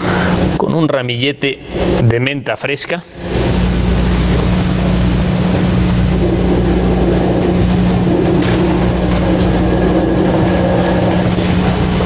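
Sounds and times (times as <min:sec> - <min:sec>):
loud droning hum: 0:00.0 - 0:12.0.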